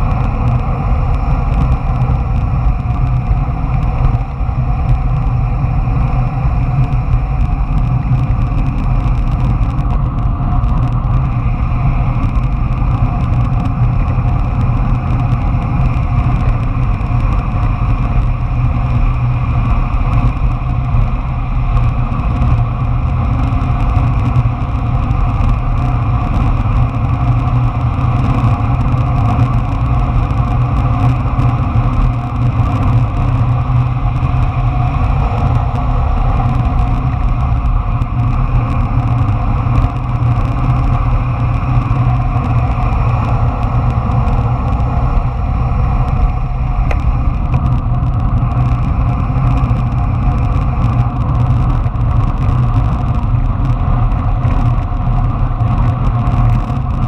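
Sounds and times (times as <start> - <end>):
wheels rolling over asphalt: 0.0 - 57.0
wind on microphone: 0.0 - 57.0.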